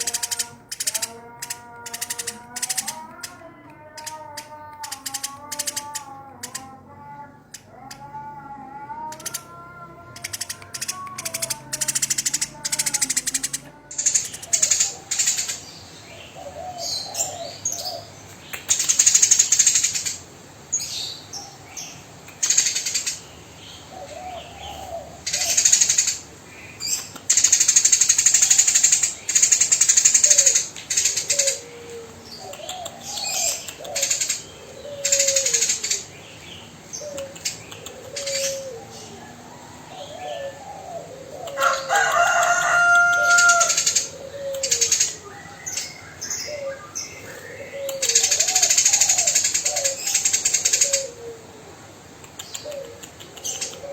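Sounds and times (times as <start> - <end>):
sparrow chattering: 0.0 - 8.3, 9.0 - 53.9.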